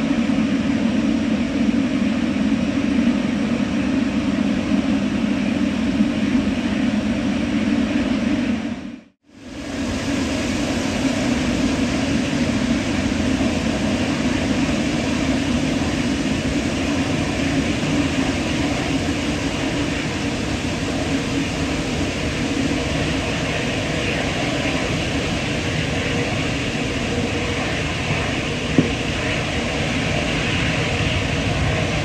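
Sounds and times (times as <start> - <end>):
jet engine rumble: 0.0 - 32.0.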